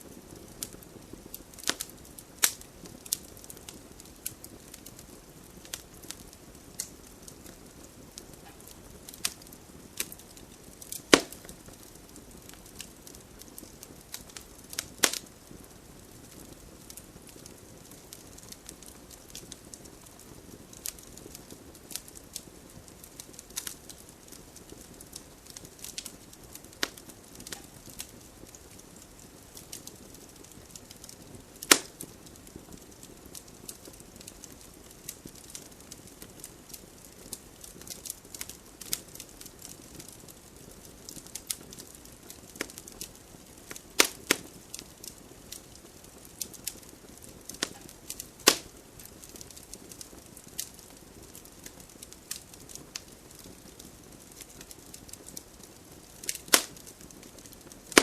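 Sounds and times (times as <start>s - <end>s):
campfire hissing and crackling: 0.0s - 58.0s
sharp fire pops: 0.1s - 58.0s.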